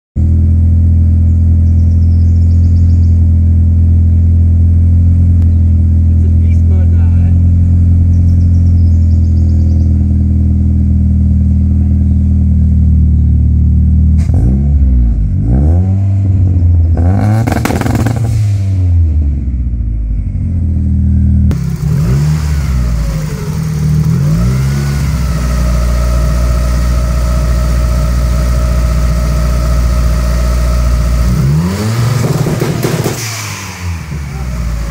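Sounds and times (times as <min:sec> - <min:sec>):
car engine idling and revving: 0:00.2 - 0:34.9
engine bouncing on rev limiter: 0:00.9 - 0:18.7, 0:21.2 - 0:34.9.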